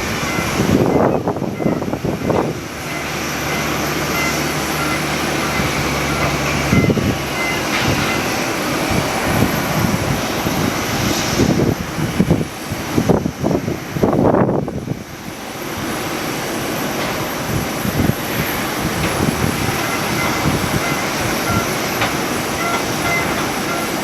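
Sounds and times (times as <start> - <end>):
aircraft engine noise: 0.0 - 24.0
wind buffeting microphone: 0.0 - 24.0.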